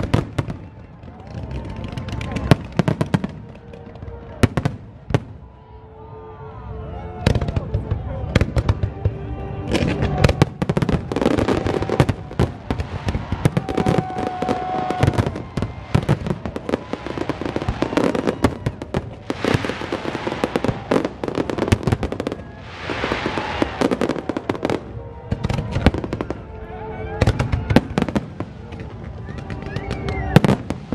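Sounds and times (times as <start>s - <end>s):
fireworks bursting: 0.0s - 5.3s, 7.3s - 26.5s, 27.2s - 30.9s
fireworks crackling: 0.0s - 5.3s, 7.4s - 30.9s.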